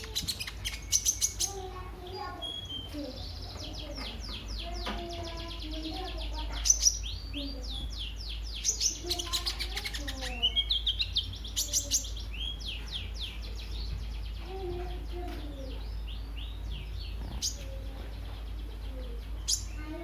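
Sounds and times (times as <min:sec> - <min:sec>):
bird twittering song: 0:00.0 - 0:20.0.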